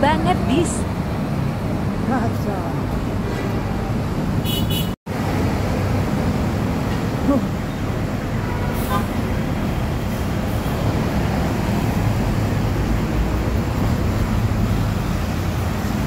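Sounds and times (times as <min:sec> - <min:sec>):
heavy traffic engines: 0:00.0 - 0:16.0.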